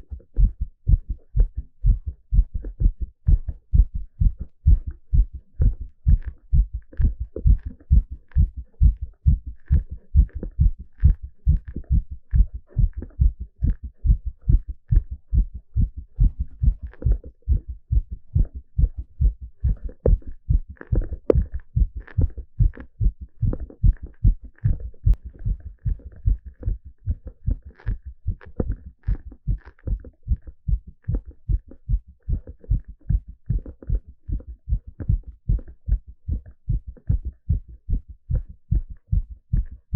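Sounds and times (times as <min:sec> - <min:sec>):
fast heartbeat through stethoscope: 0:00.0 - 0:39.9.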